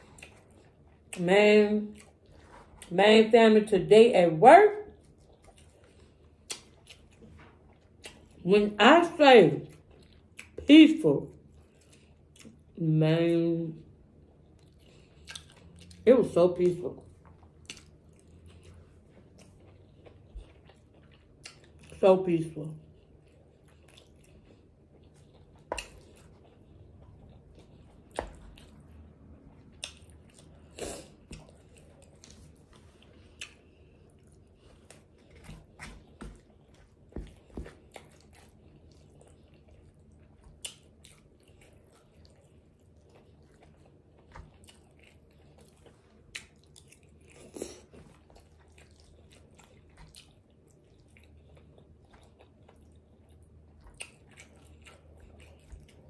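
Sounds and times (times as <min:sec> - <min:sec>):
wet chewing with clicks and smacks: 0:00.0 - 0:03.0, 0:04.8 - 0:08.5, 0:09.5 - 0:12.8, 0:13.8 - 0:16.1, 0:16.9 - 0:22.0, 0:22.6 - 0:56.0.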